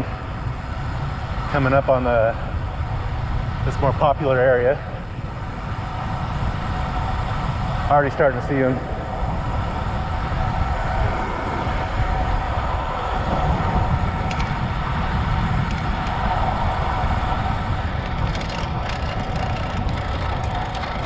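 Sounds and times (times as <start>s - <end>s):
wind rush on microphone: 0.0s - 21.0s.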